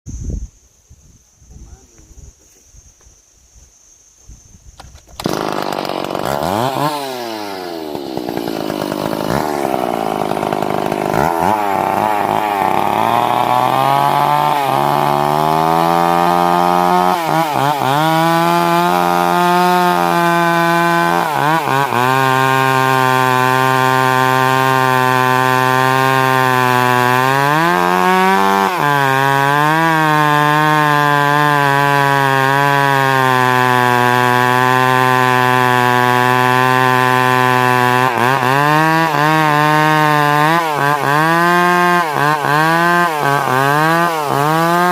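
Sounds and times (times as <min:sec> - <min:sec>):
chainsaw starting and revving: 0:04.9 - 0:44.9.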